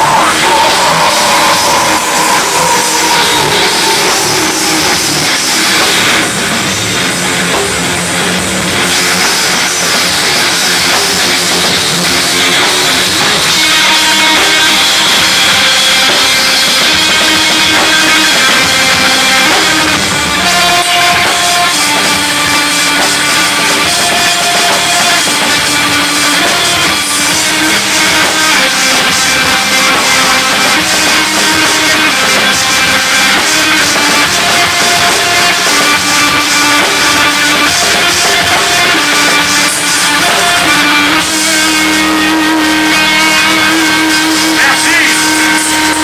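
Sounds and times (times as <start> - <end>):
distorted electric guitars: 0.0 - 46.0
pounding drum kit: 0.0 - 46.0.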